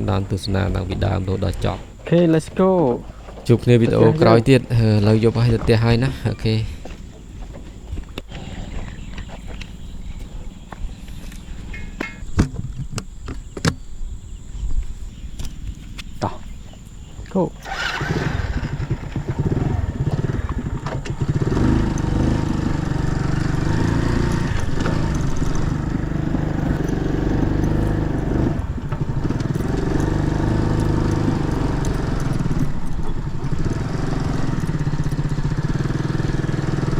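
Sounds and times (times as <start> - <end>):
small motorcycle engine: 0.0 - 10.3, 17.4 - 36.9.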